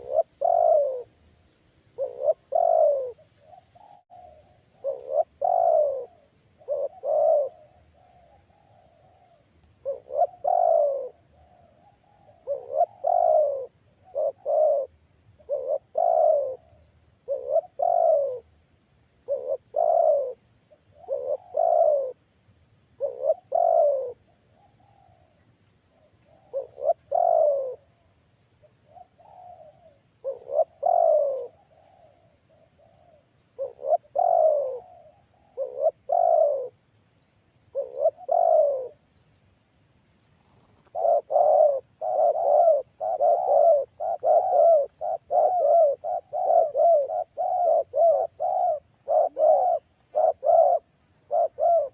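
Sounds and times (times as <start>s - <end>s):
dove cooing: 0.0s - 1.2s, 1.9s - 18.6s, 19.2s - 22.3s, 23.0s - 36.9s, 37.7s - 39.3s, 40.4s - 51.9s.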